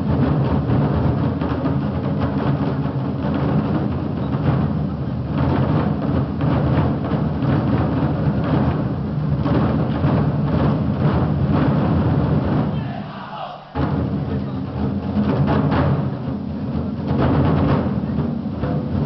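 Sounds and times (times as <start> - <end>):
large drums thundering roll: 0.0 - 19.0
loud drum stroke: 0.0 - 19.0.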